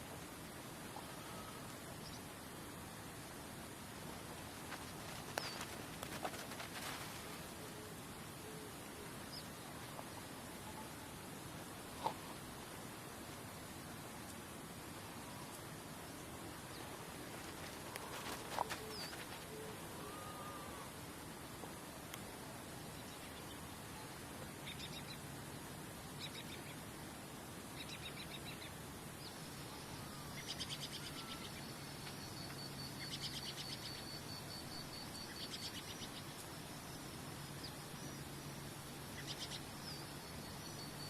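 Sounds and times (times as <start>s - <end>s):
background hiss: 0.0s - 41.0s.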